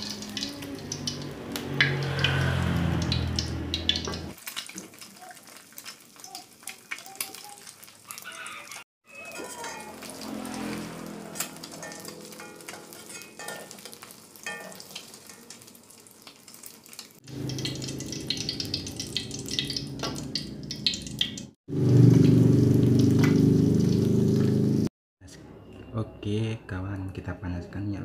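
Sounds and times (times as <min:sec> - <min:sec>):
egg sizzling in oil: 0:00.0 - 0:24.5.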